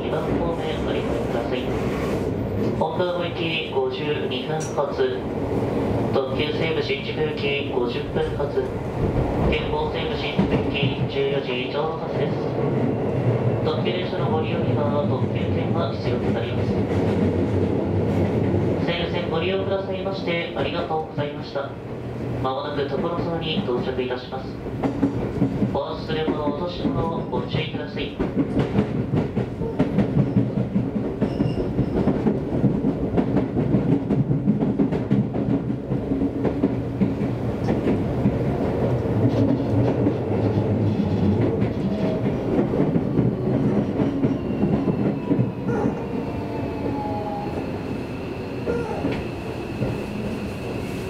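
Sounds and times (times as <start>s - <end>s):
train rumbling: 0.0s - 51.0s.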